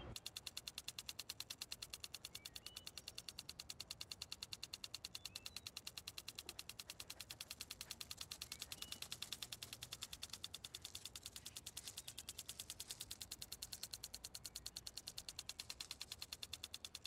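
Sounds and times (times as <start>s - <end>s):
lawn sprinkler ticking: 0.0s - 17.0s
faint bird chirps: 1.0s - 17.0s.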